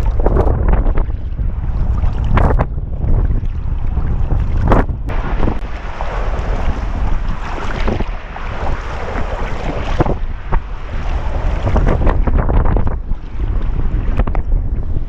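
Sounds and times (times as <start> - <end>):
paddle strokes through water: 0.0 - 15.0
water splashing around kayak: 0.0 - 15.0
wind buffeting microphone: 0.0 - 15.0.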